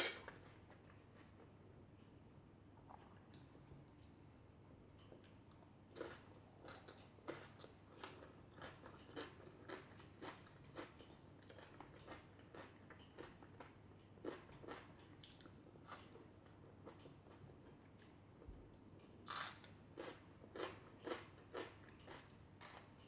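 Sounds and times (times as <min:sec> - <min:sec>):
chewing crunchy fried food: 0:00.1 - 0:01.8, 0:02.8 - 0:23.0.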